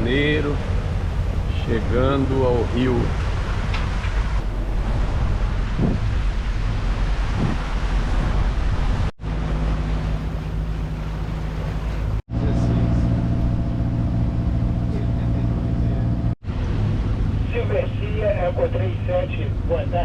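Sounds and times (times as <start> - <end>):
boat diesel engine hum: 0.0 - 20.0
wind and sea noise: 0.0 - 20.0.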